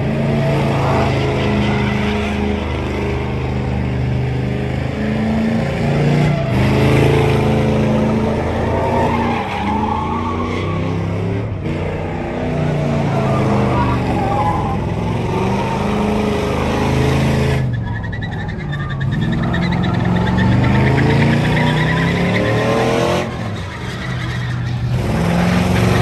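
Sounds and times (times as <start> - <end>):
truck engine revving: 0.0 - 26.0
tyres squealing on asphalt: 0.0 - 26.0.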